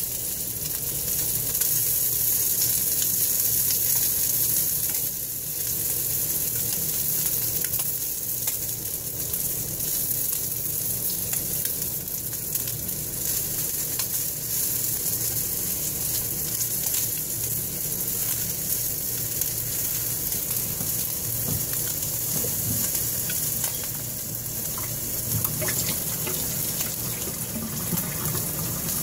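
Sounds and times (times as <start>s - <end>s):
bacon sizzling in a skillet: 0.0s - 29.0s
popping and crackling fat: 0.0s - 29.0s.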